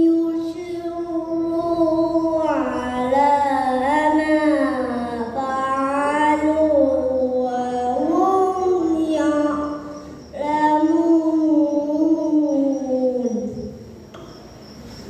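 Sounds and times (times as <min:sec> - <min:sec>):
boy chanting through a microphone: 0:00.0 - 0:13.8.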